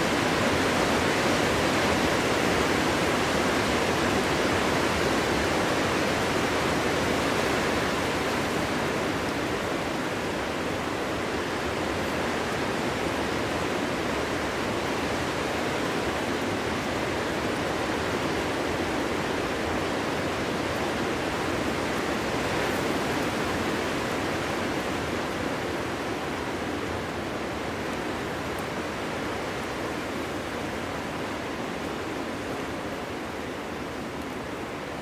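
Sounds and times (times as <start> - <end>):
wind blowing in a forest: 0.0 - 35.0.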